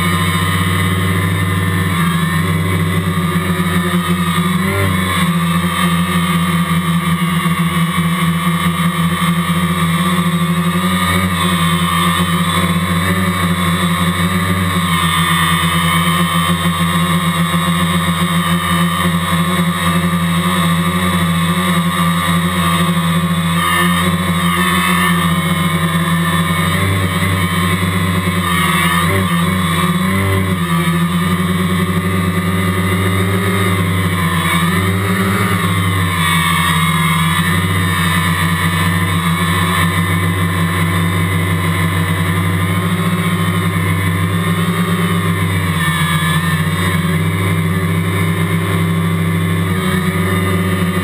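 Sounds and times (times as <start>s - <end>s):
quadcopter propellers droning: 0.0s - 51.0s.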